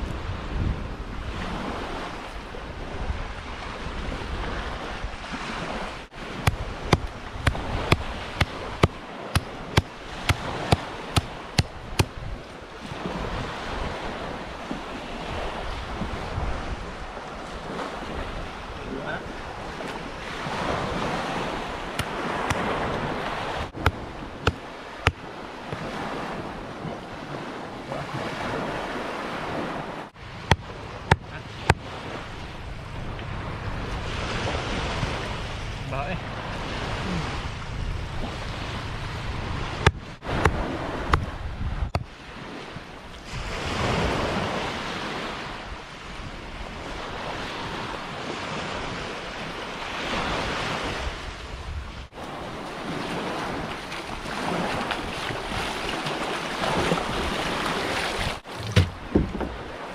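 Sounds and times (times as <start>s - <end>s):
sea waves washing: 0.0s - 59.9s
wind buffeting microphone: 0.0s - 59.9s.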